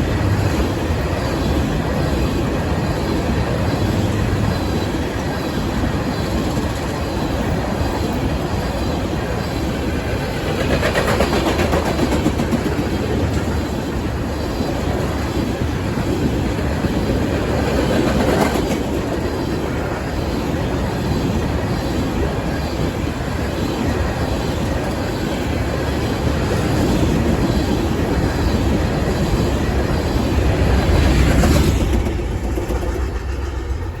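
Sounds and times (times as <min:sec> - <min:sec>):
clickety-clack over rail joints: 0:00.0 - 0:34.0
freight train rolling past: 0:00.0 - 0:34.0.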